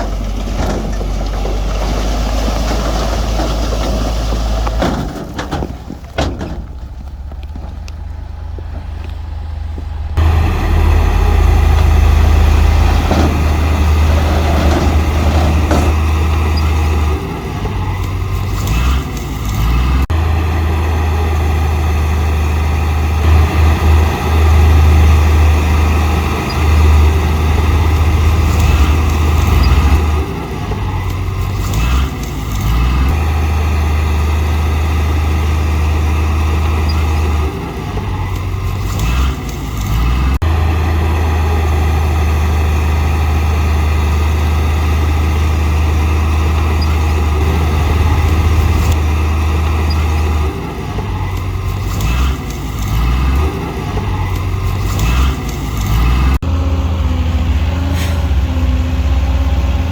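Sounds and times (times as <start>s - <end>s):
heavy diesel machinery engine drone: 0.0s - 59.9s.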